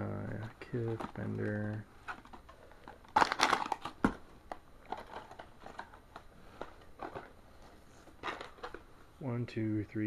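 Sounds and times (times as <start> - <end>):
packaging crinkling: 0.4 - 8.9.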